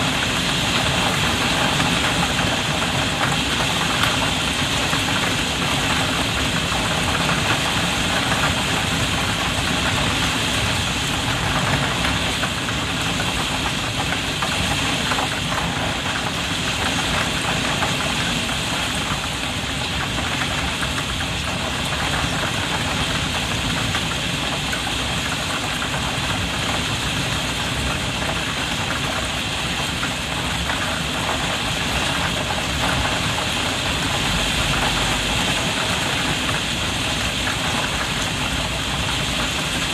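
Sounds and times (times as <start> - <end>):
heavy rain drumming on a skylight: 0.0 - 39.9.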